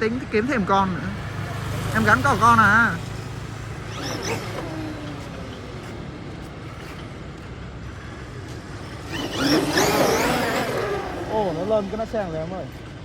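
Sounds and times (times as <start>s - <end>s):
small petrol engine running: 0.2s - 12.8s.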